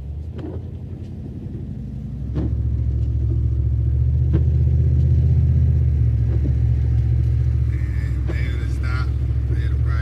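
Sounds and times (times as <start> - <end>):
truck engine rumble inside cab: 0.0 - 10.0.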